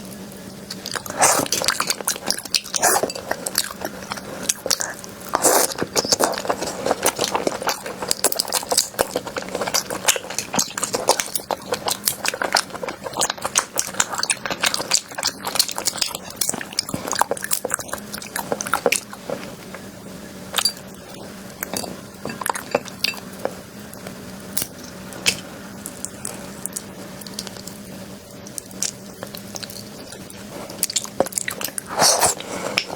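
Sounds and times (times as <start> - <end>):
chewing crunchy food: 0.6 - 19.9, 20.5 - 32.9.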